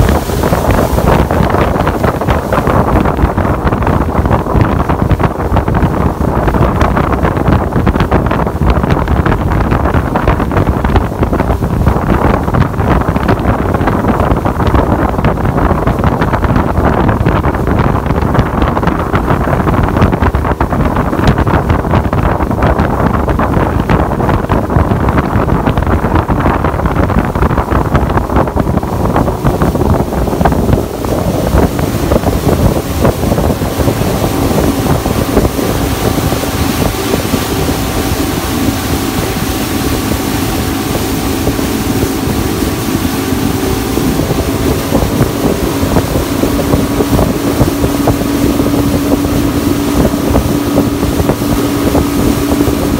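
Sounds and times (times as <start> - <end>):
motorboat engine hum: 0.0 - 52.9
water rushing past hull: 0.0 - 52.9
wind buffeting microphone: 0.0 - 52.9.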